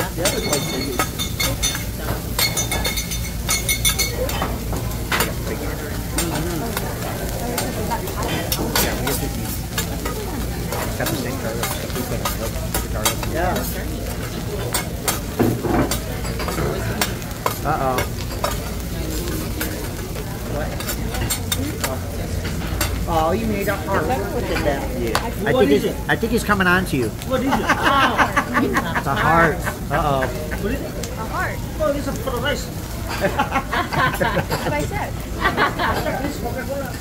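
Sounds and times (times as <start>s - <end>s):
food sizzling on griddle: 0.0s - 37.0s.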